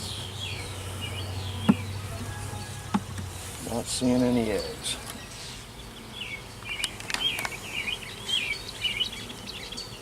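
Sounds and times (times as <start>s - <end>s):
honeybees humming: 0.0s - 10.0s.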